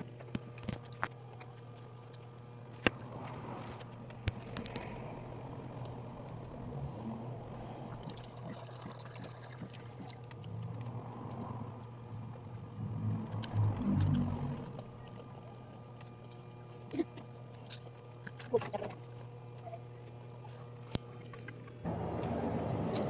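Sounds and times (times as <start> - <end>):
chewing and food handling: 0.0 - 6.6, 7.9 - 21.8
steady low hum: 0.0 - 23.0.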